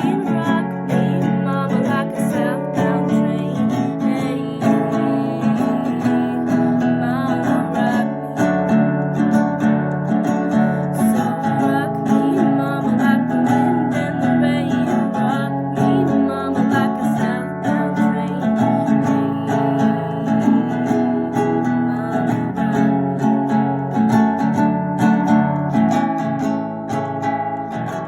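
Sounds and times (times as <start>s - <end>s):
guitar strumming: 0.0s - 28.0s.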